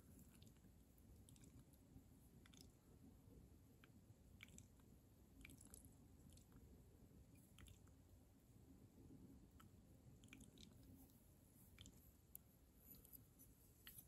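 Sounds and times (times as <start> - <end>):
faint ticks and crackles: 0.0 - 14.0.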